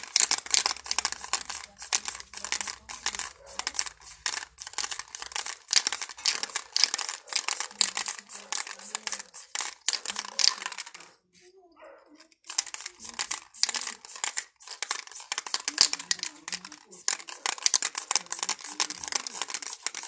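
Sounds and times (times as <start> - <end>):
spray paint can hissing: 0.0 - 11.0, 12.4 - 20.0.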